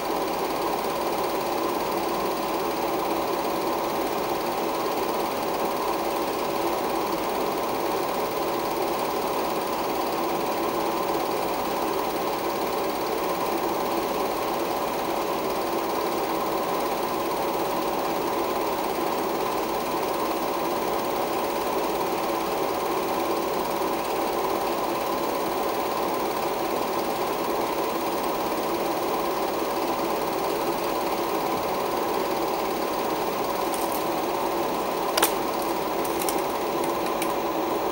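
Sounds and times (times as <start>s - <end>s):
film projector running: 0.0s - 37.9s.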